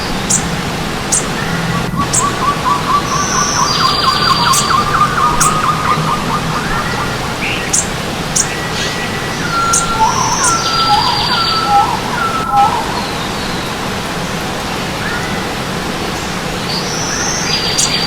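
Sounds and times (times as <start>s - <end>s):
running stream water: 0.0s - 18.0s
songbirds singing and chirping: 0.0s - 18.0s.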